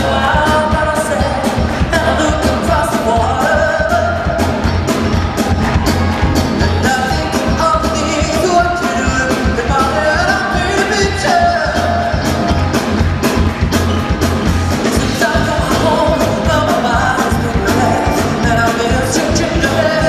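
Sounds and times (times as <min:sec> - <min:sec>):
man singing with band: 0:00.0 - 0:05.2, 0:06.4 - 0:12.7, 0:14.8 - 0:20.0
driving drum beat: 0:00.0 - 0:20.0.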